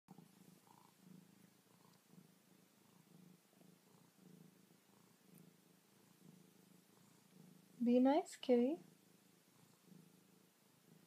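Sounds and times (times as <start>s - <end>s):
cat purring: 0.1s - 11.0s.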